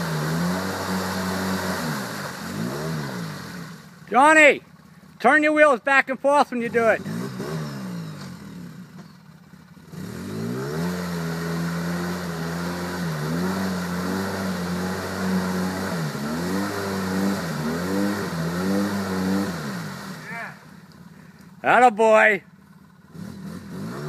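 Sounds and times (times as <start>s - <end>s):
atv engine revving under load: 0.0s - 4.3s, 6.5s - 21.8s, 22.5s - 24.0s.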